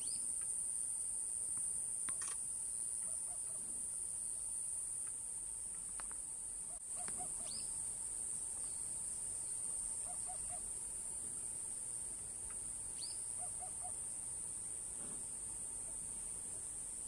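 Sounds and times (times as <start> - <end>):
cicadas buzzing: 0.0 - 17.0.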